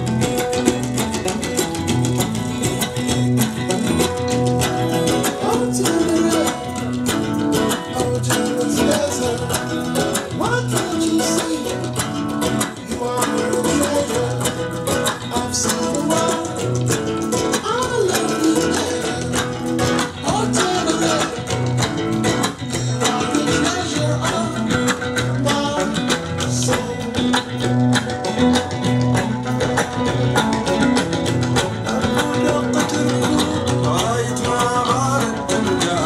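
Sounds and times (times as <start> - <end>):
guitar song with singing: 0.0 - 36.0.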